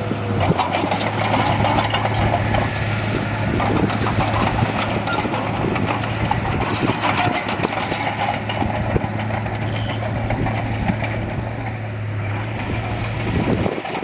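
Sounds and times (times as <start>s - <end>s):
heavy diesel machinery running: 0.0s - 14.0s
metal clattering and clanking: 0.3s - 14.0s.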